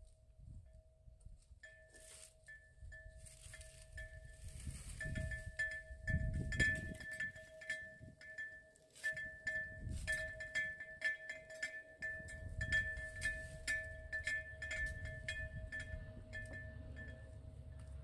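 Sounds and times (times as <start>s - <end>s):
wind chimes ringing: 0.7s - 18.0s.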